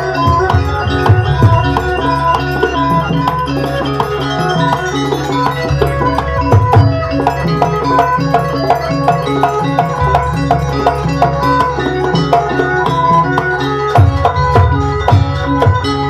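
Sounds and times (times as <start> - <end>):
hand drums: 0.0 - 16.0
struck pitched percussion melody: 0.0 - 16.0.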